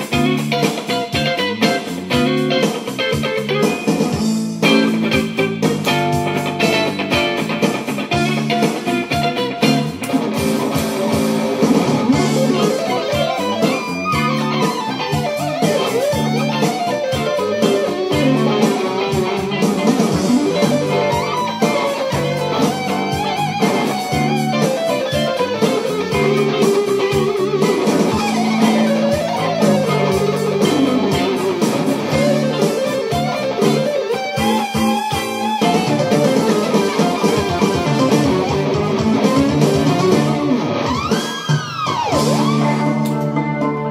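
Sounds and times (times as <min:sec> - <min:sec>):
electric guitar lead: 0:00.0 - 0:43.9.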